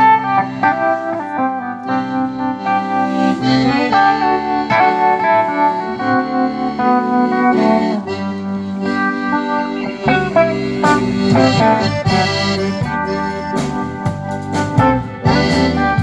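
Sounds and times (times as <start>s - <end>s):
button accordion chords: 0.0s - 16.0s
live band playing: 0.0s - 16.0s.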